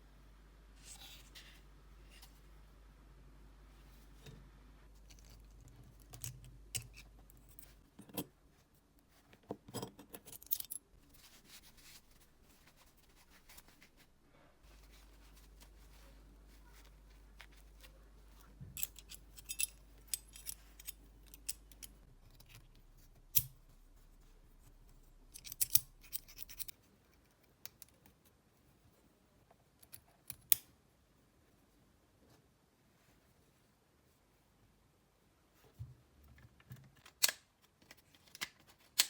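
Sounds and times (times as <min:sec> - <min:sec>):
faint low hum: 0:00.0 - 0:37.2.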